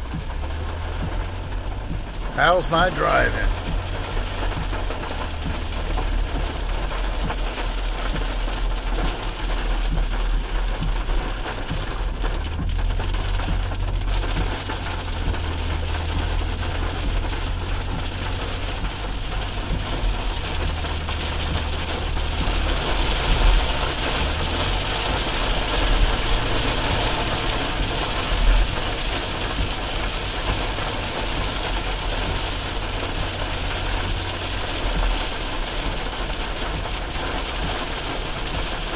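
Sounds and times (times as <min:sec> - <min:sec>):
engine and tyres rumbling: 0:00.0 - 0:38.9
rain on windshield and roof: 0:00.0 - 0:38.9.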